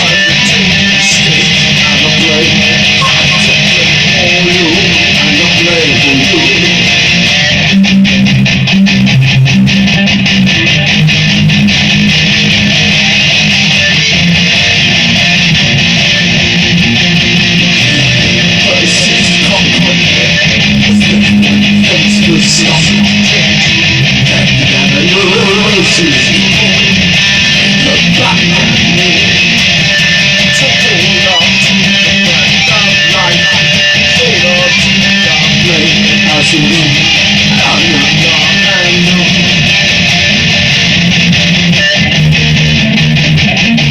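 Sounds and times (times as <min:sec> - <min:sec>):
electric guitar playing: 0:00.0 - 0:43.9.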